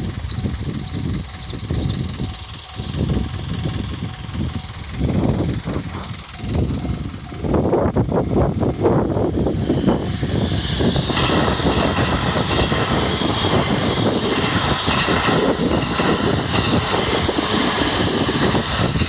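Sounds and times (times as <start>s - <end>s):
crossing warning bell: 0.0s - 9.0s, 9.6s - 19.0s
train wheels rumbling on rails: 0.0s - 19.0s.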